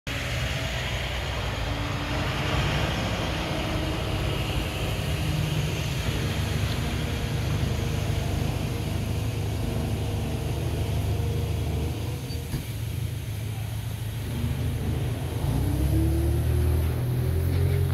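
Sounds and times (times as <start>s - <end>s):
garbage truck engine idling: 0.3s - 17.9s.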